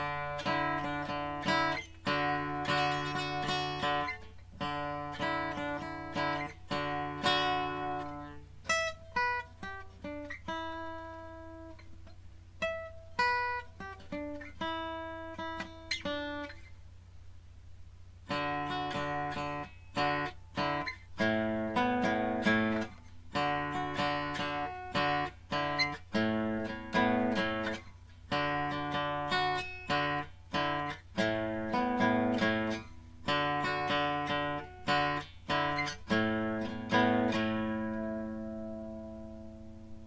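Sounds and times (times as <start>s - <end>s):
guitar picked notes and arpeggios: 0.0s - 16.7s, 18.3s - 40.0s
acoustic guitar strummed chords: 0.0s - 16.8s, 18.2s - 40.0s.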